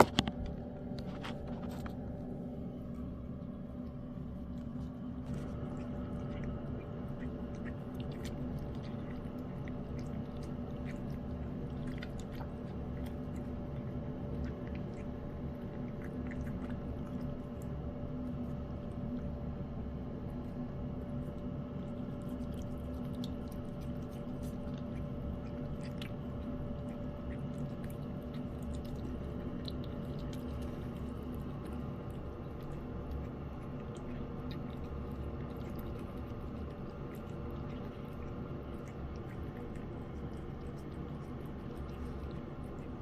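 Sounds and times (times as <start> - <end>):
background hum: 0.0 - 43.0
cat chewing wet food: 0.0 - 43.0.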